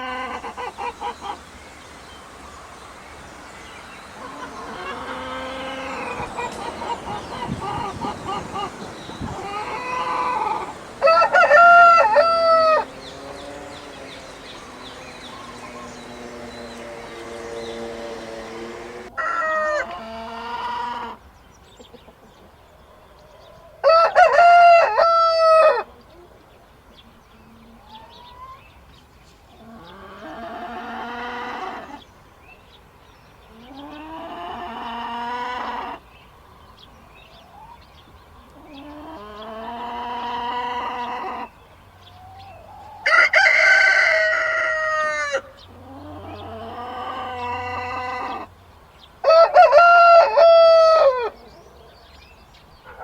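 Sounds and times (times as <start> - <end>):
roosters crowing: 0.0 - 21.3, 22.8 - 26.0, 29.6 - 32.1, 33.5 - 36.2, 38.6 - 51.6.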